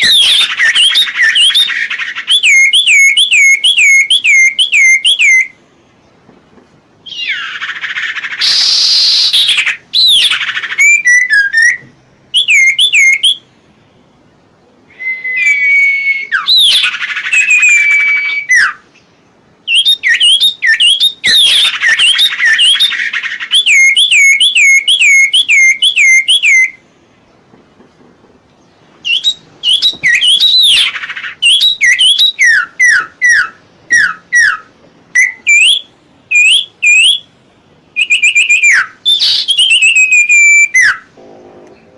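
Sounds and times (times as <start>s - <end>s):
bird whistling song: 0.0s - 5.6s, 7.0s - 13.6s, 14.8s - 26.8s, 28.6s - 37.3s, 37.9s - 41.1s.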